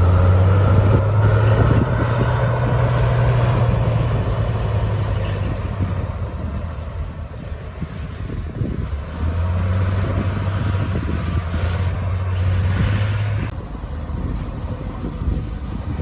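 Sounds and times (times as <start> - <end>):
bulldozer diesel engine: 0.0 - 16.0.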